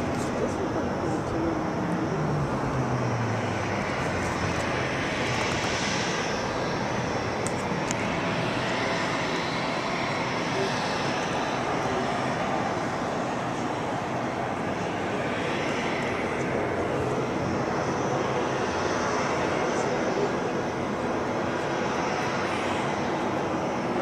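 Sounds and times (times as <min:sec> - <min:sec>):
distant jet engines rushing: 0:00.0 - 0:24.0.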